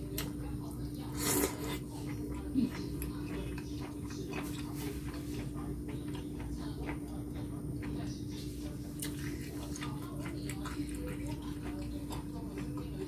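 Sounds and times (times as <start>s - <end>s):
steady low hum: 0.0s - 13.0s
wet chewing: 0.0s - 13.0s.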